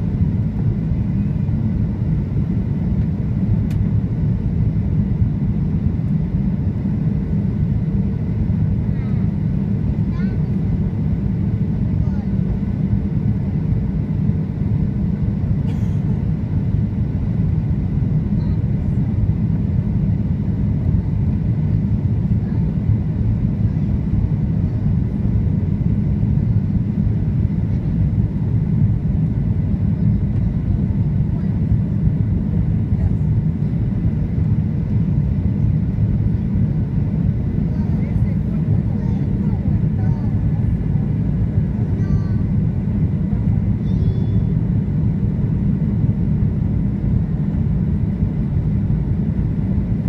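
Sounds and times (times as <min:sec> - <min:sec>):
airflow over wing: 0:00.0 - 0:50.0
airplane cabin engine rush: 0:00.0 - 0:50.0.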